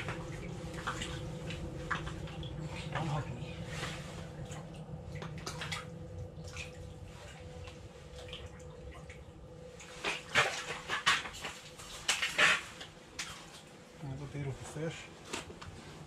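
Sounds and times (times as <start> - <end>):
fish splashing in water: 0.0 - 13.8
faint steady hum: 0.0 - 16.0.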